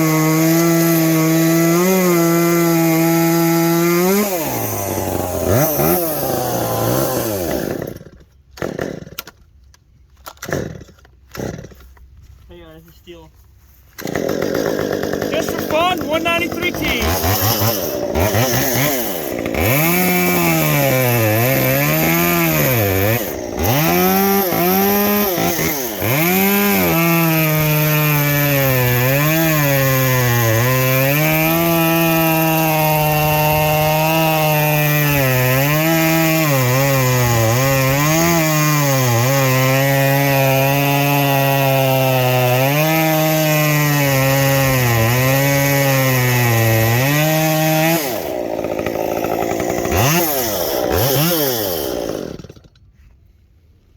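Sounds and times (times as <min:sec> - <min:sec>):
chainsaw revving: 0:00.0 - 0:09.3, 0:10.4 - 0:11.9, 0:13.9 - 0:52.8
chainsaw cutting wood: 0:00.0 - 0:09.5, 0:10.2 - 0:12.1, 0:13.8 - 0:53.0.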